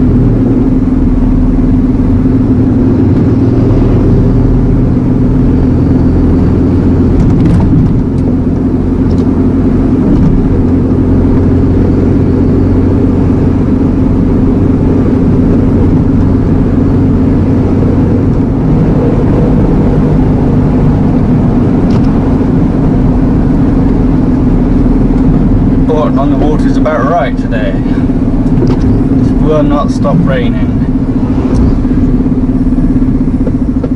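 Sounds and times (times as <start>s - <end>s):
lorry diesel engine running: 0.0s - 33.9s.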